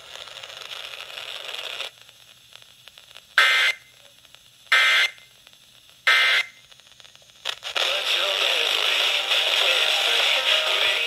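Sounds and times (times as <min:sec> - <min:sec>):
radio speaker hiss: 0:00.0 - 0:11.0.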